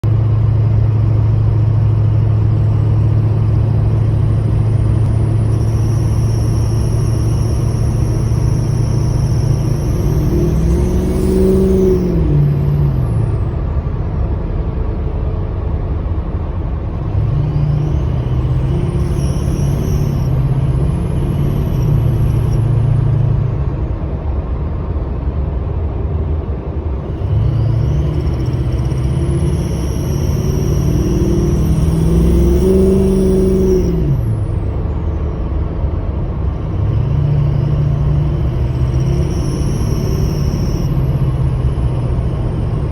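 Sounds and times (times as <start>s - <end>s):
diesel engine pulling under load: 0.0s - 42.9s
high thin squeal: 1.2s - 14.0s, 17.0s - 24.0s, 27.0s - 42.9s.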